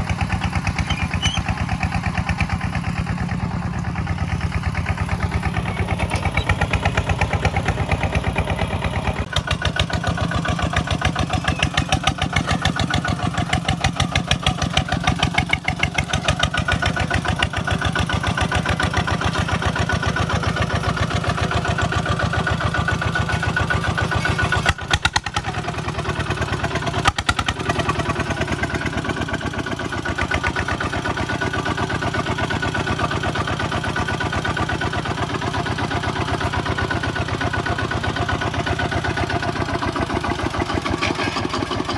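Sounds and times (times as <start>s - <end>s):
diesel engine chugging: 0.0s - 41.9s.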